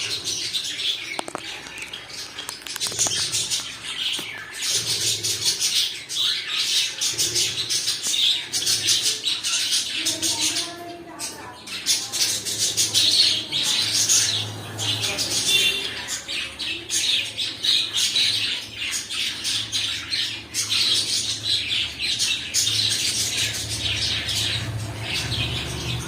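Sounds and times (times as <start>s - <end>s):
cockatiels chirping and squawking: 0.0s - 26.0s.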